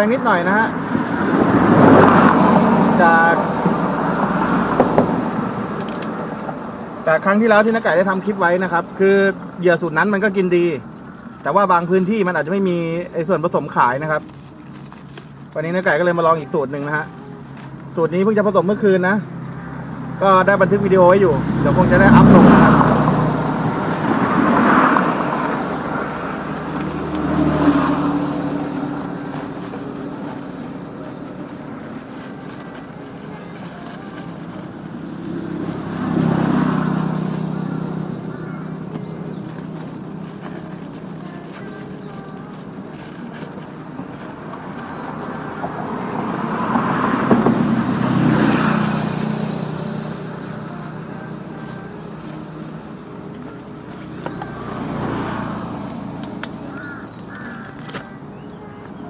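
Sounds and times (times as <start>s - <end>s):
vehicles passing by: 0.0s - 59.0s.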